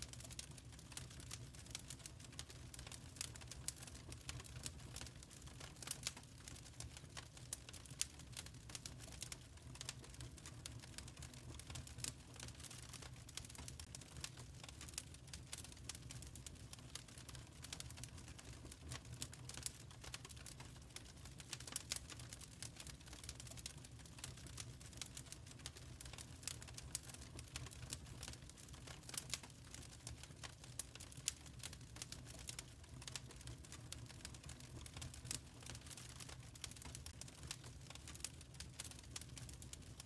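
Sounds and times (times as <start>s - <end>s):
low rumble of flames: 0.0s - 40.0s
fire snapping and popping: 0.1s - 40.0s.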